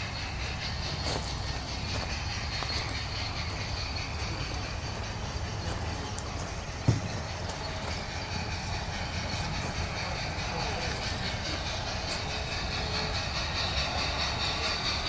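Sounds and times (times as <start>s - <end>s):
model train rolling on track: 0.0s - 15.0s.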